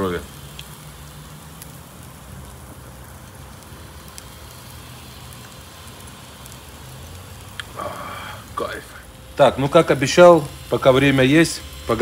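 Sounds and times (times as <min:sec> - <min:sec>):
meat sizzling over charcoal: 0:00.0 - 0:12.0
sharp crackles from hot coals: 0:00.0 - 0:12.0.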